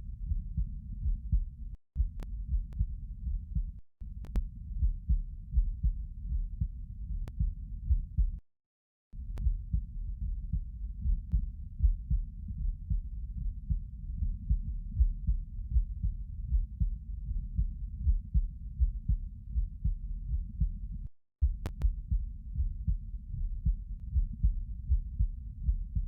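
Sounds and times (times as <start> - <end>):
heartbeat thumps: 0.0 - 8.4, 9.2 - 26.0.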